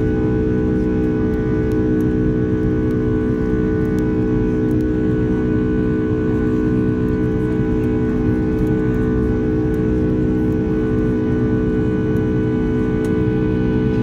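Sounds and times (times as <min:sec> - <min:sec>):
airliner droning on takeoff: 0:00.0 - 0:14.0
low rumble: 0:00.0 - 0:14.0.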